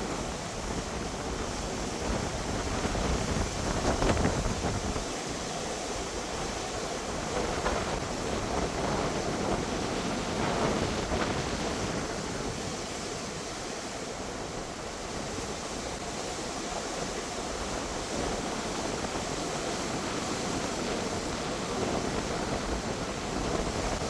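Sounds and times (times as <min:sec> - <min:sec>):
ocean surf washing ashore: 0:00.0 - 0:24.0.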